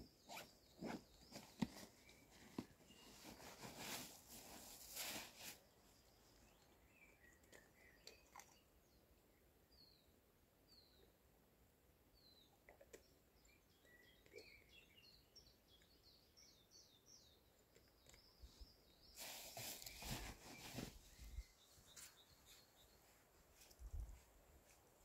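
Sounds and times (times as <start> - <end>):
songbird chirps: 0.0 - 25.0.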